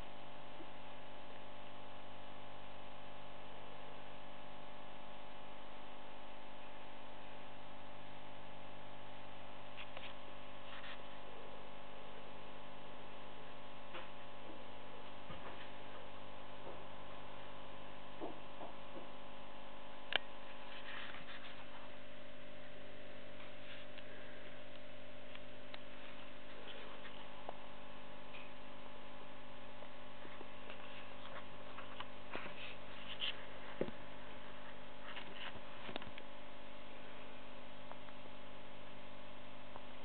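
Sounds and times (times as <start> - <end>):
electrical hum: 0.0 - 40.0.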